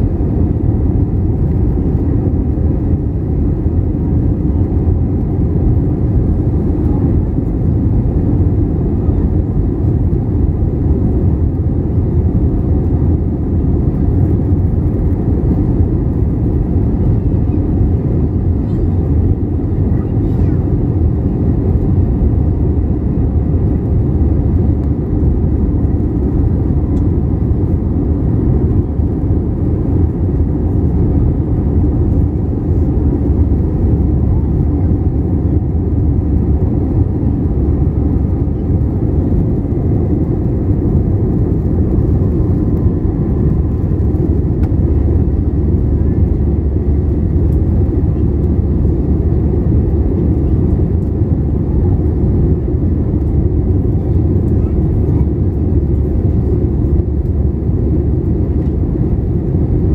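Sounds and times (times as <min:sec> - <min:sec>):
jet cabin engine roar: 0:00.0 - 0:59.9.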